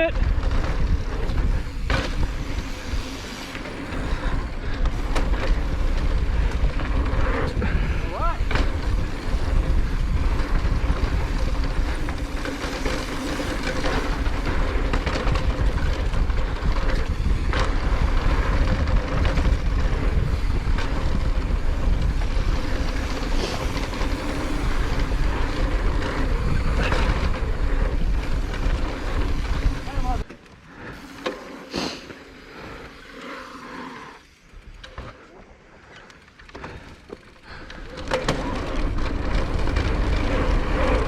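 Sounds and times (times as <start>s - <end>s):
wind buffeting microphone: 0.0s - 30.2s, 37.5s - 41.0s
tyres on dirt trail: 0.0s - 41.0s
bike knocks and rattles: 0.1s - 31.4s, 36.2s - 41.0s.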